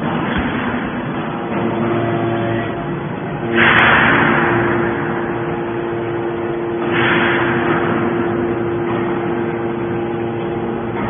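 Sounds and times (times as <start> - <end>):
hydraulic power unit hum: 0.0 - 11.0.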